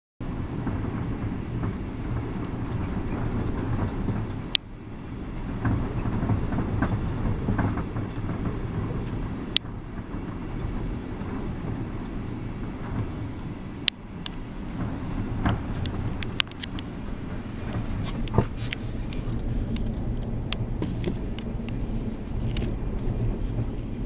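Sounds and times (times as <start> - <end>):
gusty wind buffeting microphone: 0.2 - 24.0.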